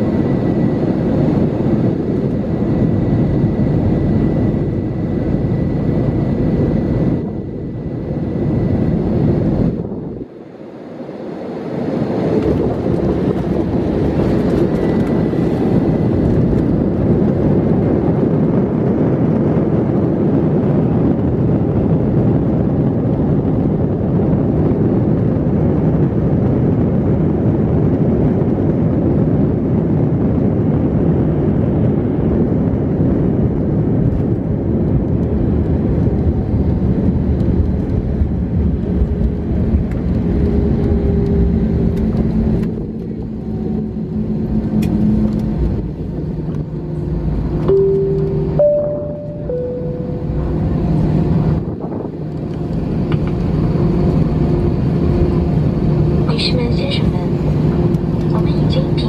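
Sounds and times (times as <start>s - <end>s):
airplane landing rumble: 0.0s - 59.0s
low engine hum: 0.0s - 59.0s.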